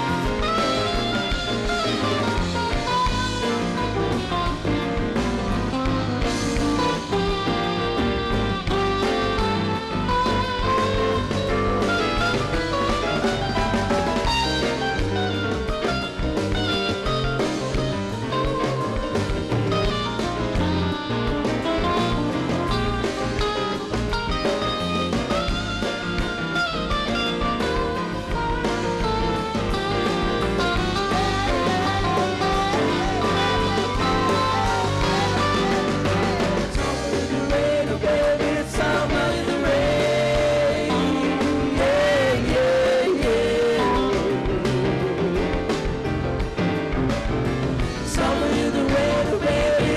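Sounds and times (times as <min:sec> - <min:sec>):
electric guitar: 0:00.0 - 0:49.9
live rock band playing: 0:00.0 - 0:49.9.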